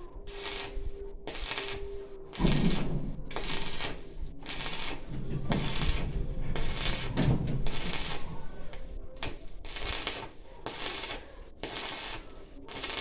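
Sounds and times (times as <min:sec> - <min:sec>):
welding arc crackling: 0:00.2 - 0:13.0.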